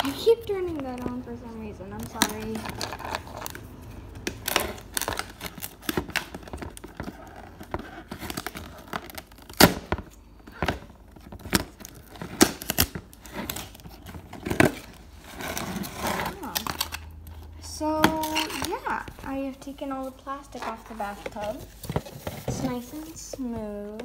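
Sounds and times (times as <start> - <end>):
plastic film crinkling and tearing: 0.0 - 24.0.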